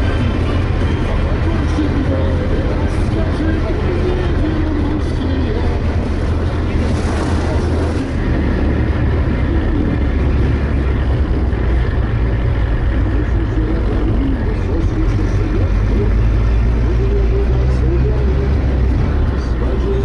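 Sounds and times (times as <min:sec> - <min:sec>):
all-terrain vehicle engine droning: 0:00.0 - 0:20.0.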